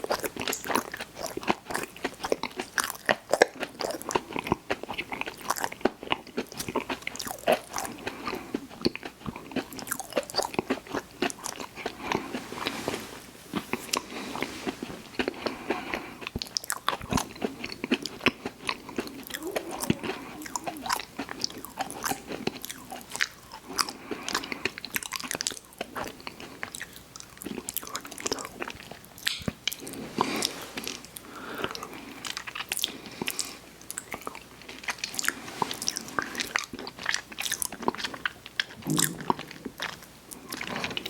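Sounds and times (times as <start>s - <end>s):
chewing sweets: 0.0s - 41.0s.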